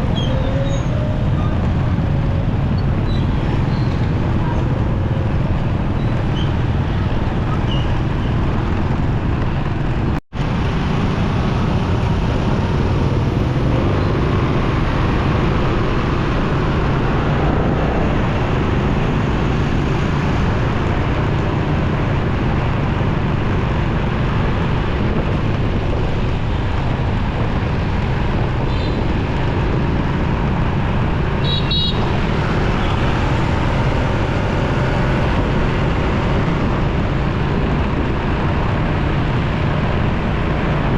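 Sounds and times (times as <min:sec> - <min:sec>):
motorcycle engine: 0:00.0 - 0:40.9
surrounding traffic: 0:00.0 - 0:40.9
tyre and wind noise: 0:00.0 - 0:40.9.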